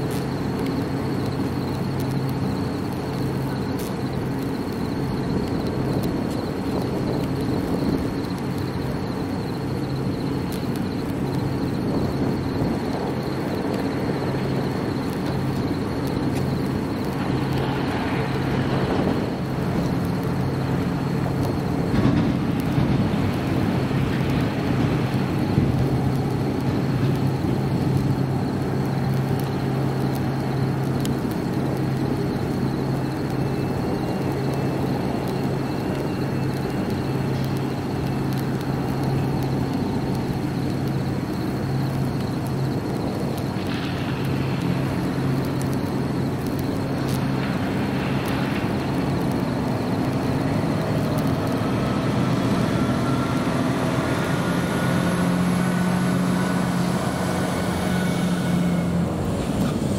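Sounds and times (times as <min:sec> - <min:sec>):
diesel pump engines droning: 0:00.0 - 0:59.9.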